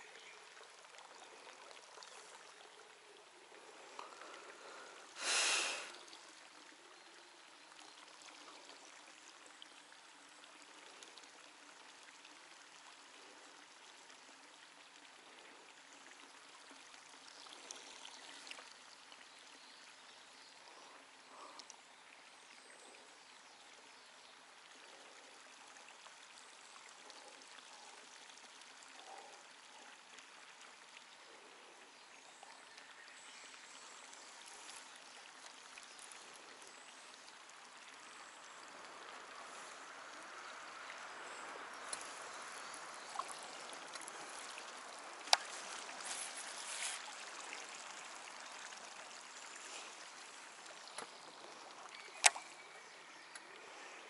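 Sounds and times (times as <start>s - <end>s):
light rain hiss and patter: 0.0s - 54.0s.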